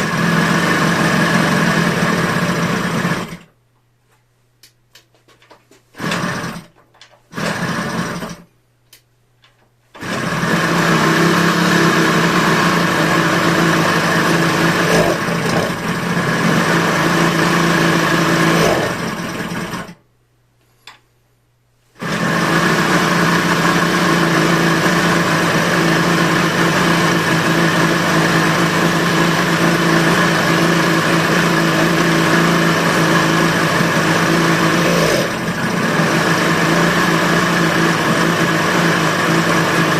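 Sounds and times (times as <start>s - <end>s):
two-stroke motorcycle engine: 0.0s - 3.5s, 6.0s - 8.5s, 10.0s - 20.0s, 22.0s - 39.9s.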